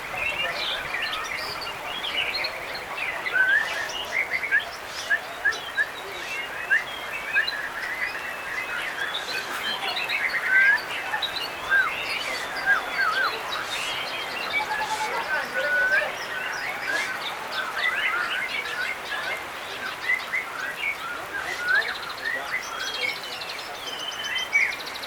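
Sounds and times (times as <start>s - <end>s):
birds singing whistles and chirps: 0.0s - 25.0s.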